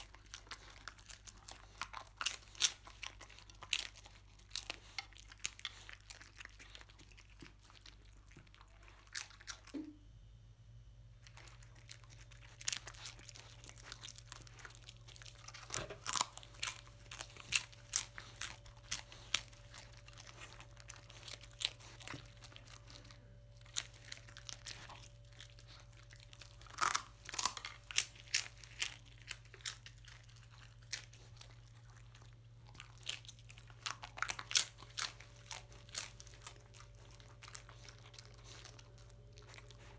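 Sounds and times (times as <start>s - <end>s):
dog crunching and chewing: 0.0s - 10.0s, 11.1s - 39.9s.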